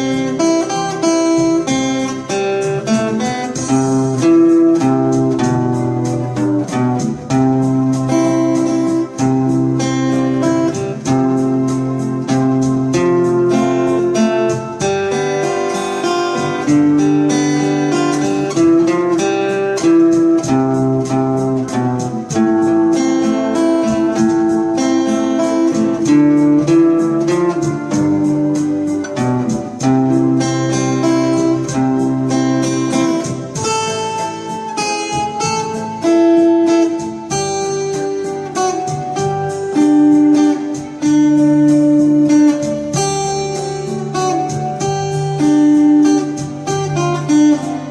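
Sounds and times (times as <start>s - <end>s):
acoustic guitar melody: 0.0s - 47.9s.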